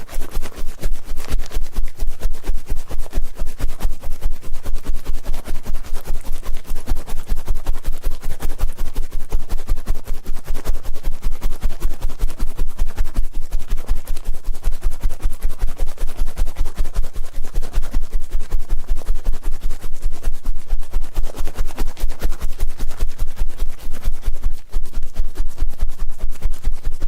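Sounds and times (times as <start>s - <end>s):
scratching on a microphone: 0.0s - 27.0s.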